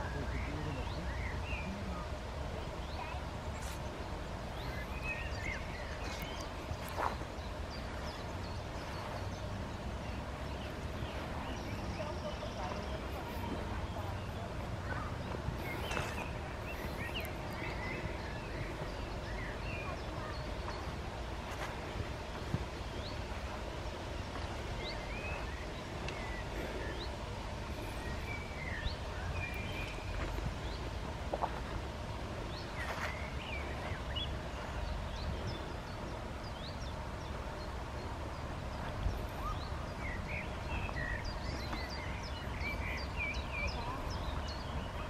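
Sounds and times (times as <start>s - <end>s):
small birds chirping: 0.0s - 45.0s
steady low rumble: 0.0s - 45.0s.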